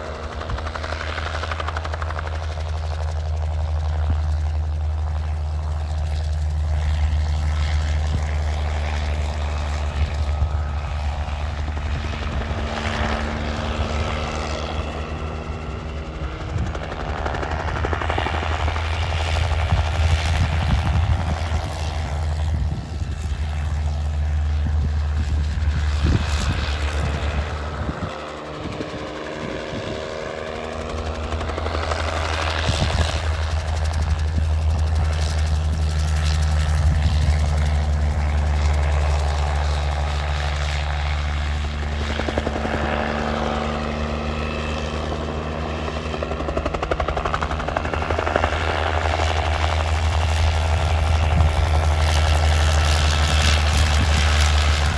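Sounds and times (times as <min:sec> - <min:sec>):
helicopter flying overhead: 0:00.0 - 0:54.9.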